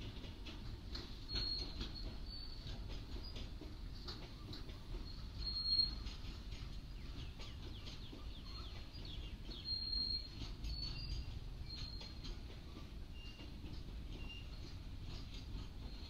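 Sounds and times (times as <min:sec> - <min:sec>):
freight train wheels rumbling: 0:00.0 - 0:16.0
high wheel squeaks: 0:00.0 - 0:16.0.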